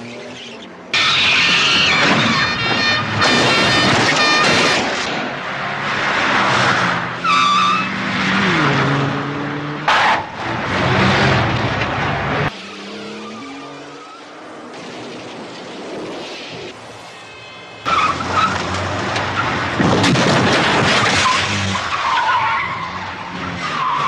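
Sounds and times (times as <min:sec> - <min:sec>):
car engines revving: 0:00.0 - 0:17.1, 0:17.8 - 0:24.0
steady traffic: 0:00.0 - 0:24.0.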